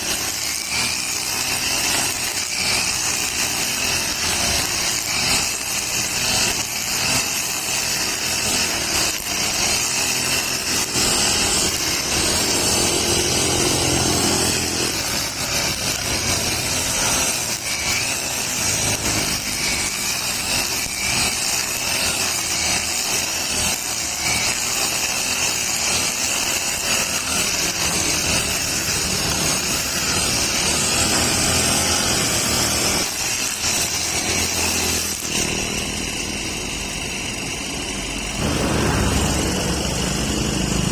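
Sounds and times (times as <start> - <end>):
brush cutter engine running: 0.0 - 40.9
string trimmer cutting grass: 0.0 - 40.9.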